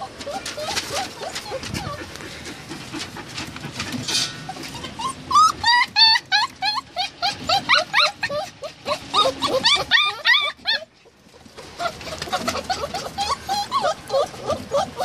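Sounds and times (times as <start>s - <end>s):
puppies whining and yelping: 0.0s - 15.0s.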